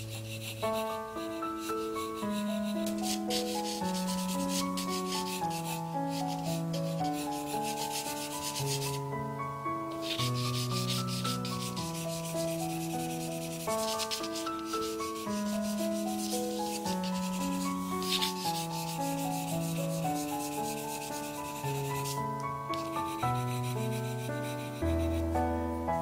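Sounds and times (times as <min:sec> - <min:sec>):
pencil scratching on paper: 0:00.0 - 0:09.0, 0:10.0 - 0:25.2
background music with sustained notes: 0:00.0 - 0:26.0.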